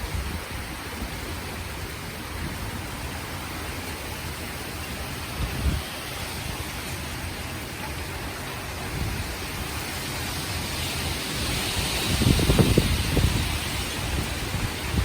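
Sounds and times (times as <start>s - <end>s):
heavy rain hissing: 0.0s - 15.0s
wind gusts rumbling on microphone: 0.0s - 15.0s.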